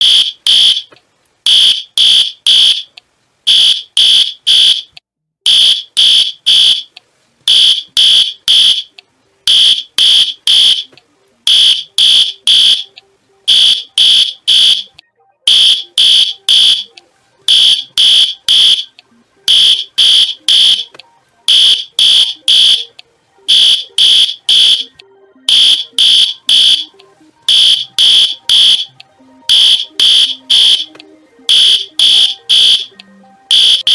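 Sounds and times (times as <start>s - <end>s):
electronic alarm beeping: 0.0s - 33.9s.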